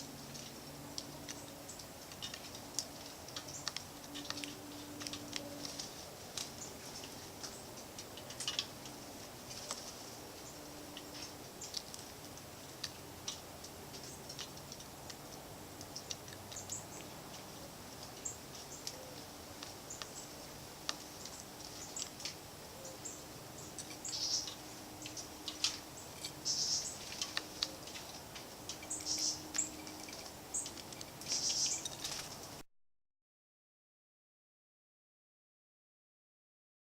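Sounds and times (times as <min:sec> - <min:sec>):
small songbirds chirping: 0:00.0 - 0:32.6.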